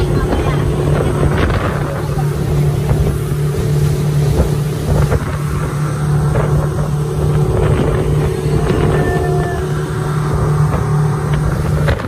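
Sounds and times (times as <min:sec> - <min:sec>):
motorboat engine running: 0:00.0 - 0:12.0
wind buffeting microphone: 0:00.0 - 0:12.0.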